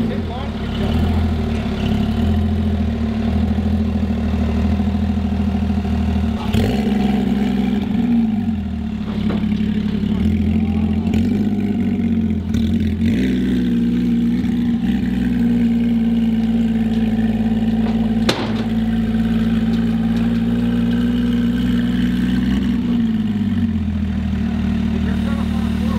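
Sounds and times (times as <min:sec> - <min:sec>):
car engine running steadily: 0:00.0 - 0:25.9.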